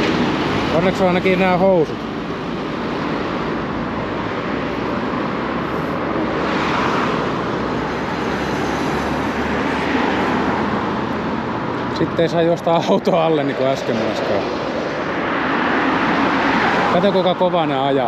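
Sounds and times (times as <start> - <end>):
cars and trucks driving past: 0.0 - 18.0.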